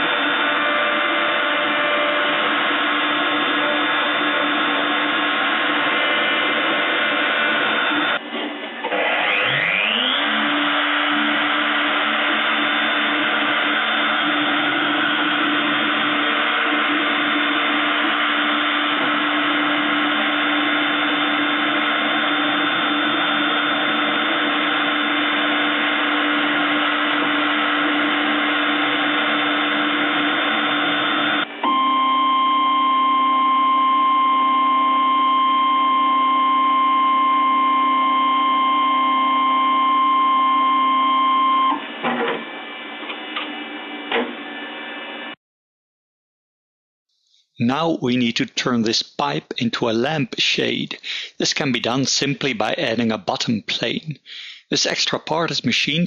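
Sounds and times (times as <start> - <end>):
milling machine spindle whine: 0.0 - 45.3.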